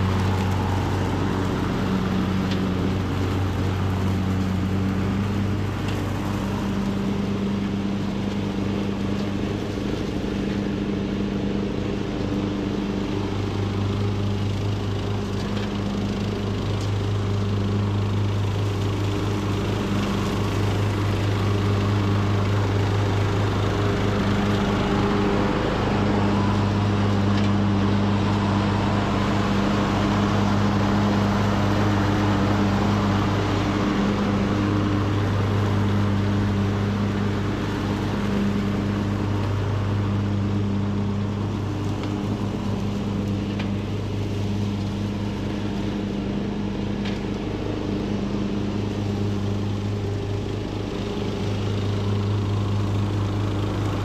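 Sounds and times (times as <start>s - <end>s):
riding mower engine running: 0.0s - 54.0s.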